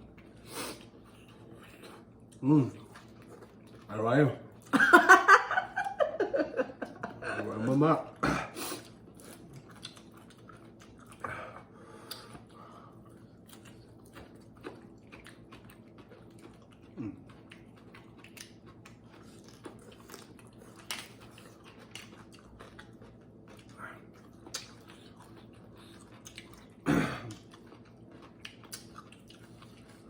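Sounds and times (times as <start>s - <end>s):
people chewing food: 0.0s - 30.0s.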